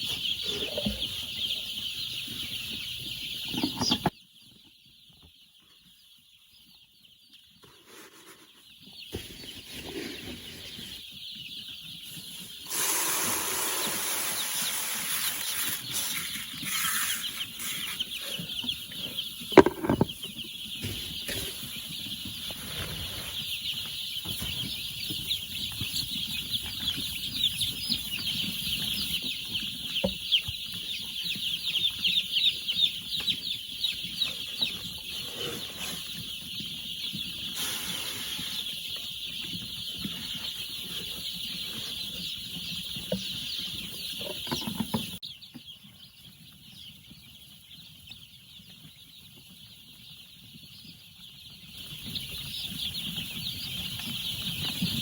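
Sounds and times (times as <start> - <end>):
chickens peeping: 0.0 - 55.0.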